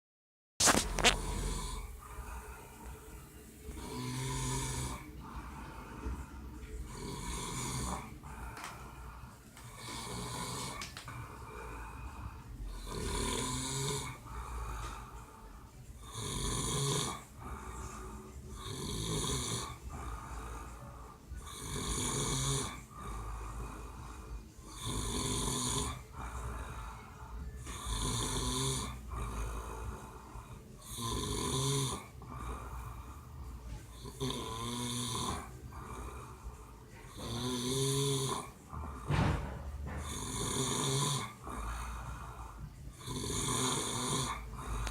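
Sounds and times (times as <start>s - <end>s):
man snoring: 0.6s - 15.4s, 16.0s - 44.9s.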